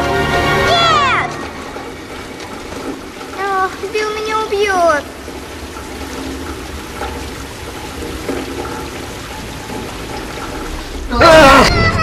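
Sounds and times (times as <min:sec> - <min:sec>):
water pouring into a drain: 0:00.0 - 0:11.8
heavy rain on a street: 0:00.0 - 0:12.0.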